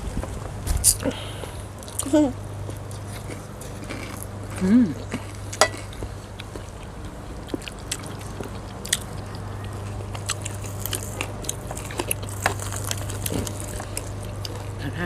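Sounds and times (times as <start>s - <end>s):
steady low hum: 0.0s - 15.0s
crunchy food bites and chewing: 1.8s - 14.8s.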